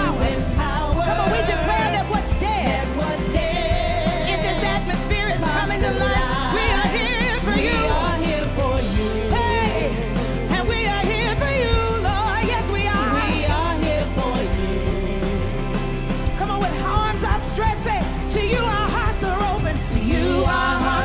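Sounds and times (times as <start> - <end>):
steady bass: 0.0 - 21.0
worship band playing: 0.0 - 21.0.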